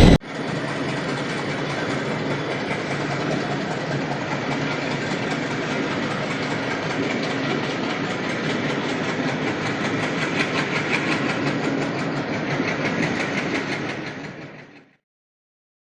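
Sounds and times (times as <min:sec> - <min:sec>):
passenger train rumbling on rails: 0:00.0 - 0:15.0.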